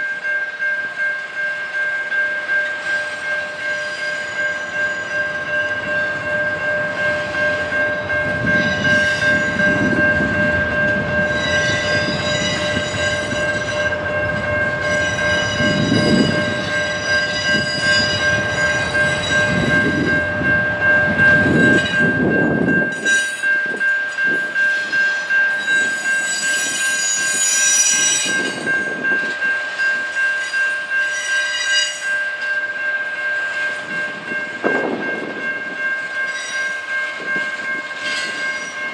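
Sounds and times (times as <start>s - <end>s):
train rumble and clatter: 0.0s - 38.9s
train wheel squeal: 2.6s - 38.9s.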